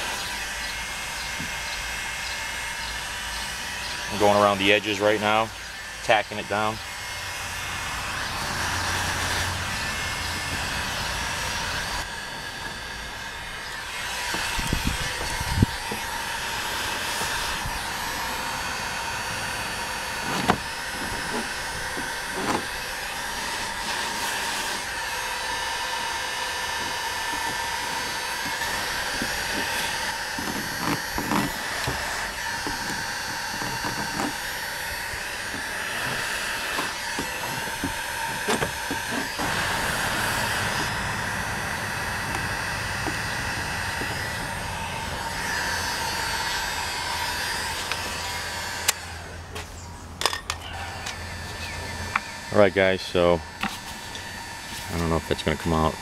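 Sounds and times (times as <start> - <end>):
heat gun blowing air: 0.0 - 56.0.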